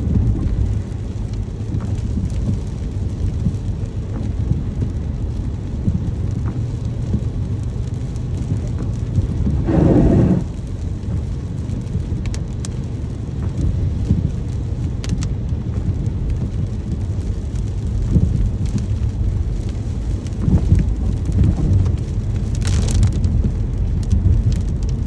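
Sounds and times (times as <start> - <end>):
deep low rumble: 0.0 - 25.0
steady rain: 0.0 - 25.0.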